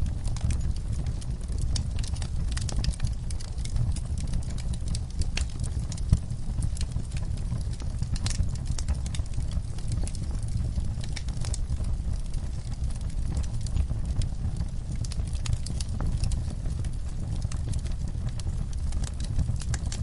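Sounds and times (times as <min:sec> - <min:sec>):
low rumble of burning: 0:00.0 - 0:20.0
wood fire crackling and popping: 0:00.0 - 0:20.0.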